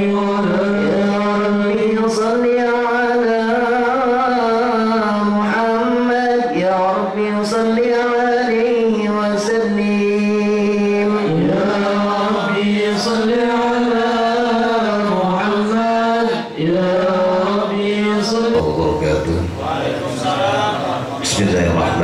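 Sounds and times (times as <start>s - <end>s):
men chanting prayer: 0.0s - 22.0s.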